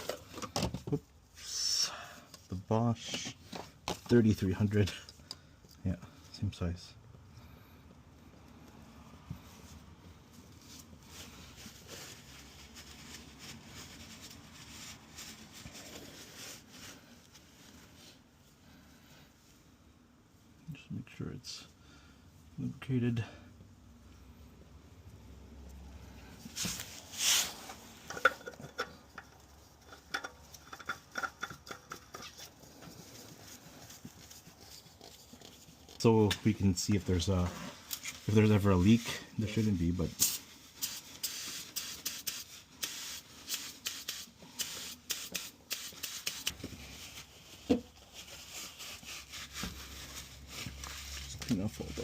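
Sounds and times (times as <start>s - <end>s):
faint rustling and handling: 0.0s - 52.0s.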